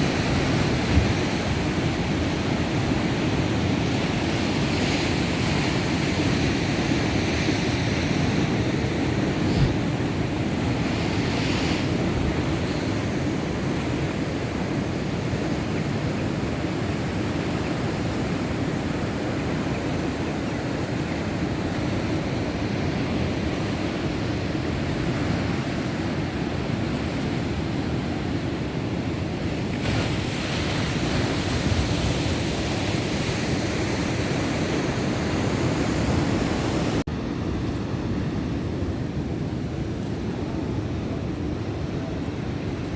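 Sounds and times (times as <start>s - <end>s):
waves breaking: 0.0s - 42.9s
wind noise on microphone: 0.0s - 42.9s.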